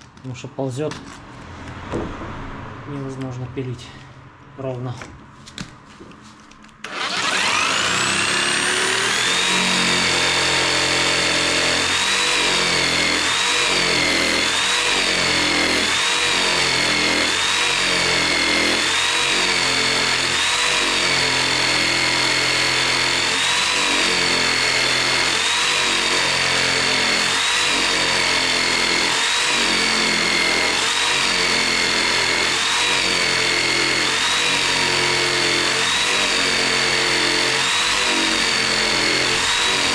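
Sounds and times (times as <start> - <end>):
electric jigsaw cutting wood: 6.8 - 39.9.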